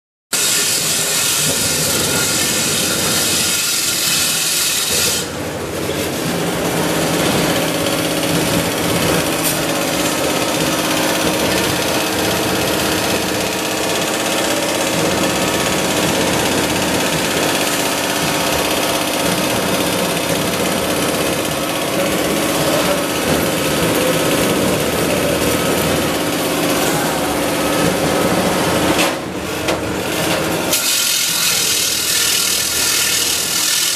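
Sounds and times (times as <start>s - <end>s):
factory machinery running: 0.4s - 33.9s
mechanical hum with held tones: 0.4s - 33.9s.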